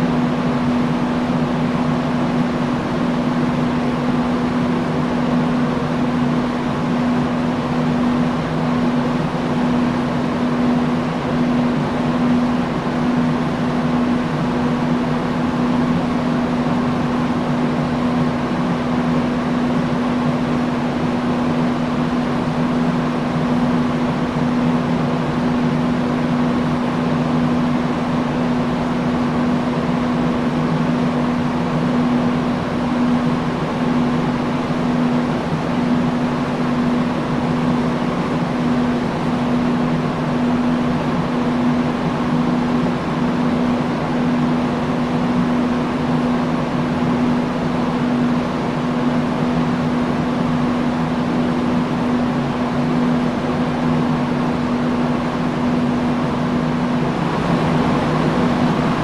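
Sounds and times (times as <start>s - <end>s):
industrial fan running: 0.0s - 59.0s.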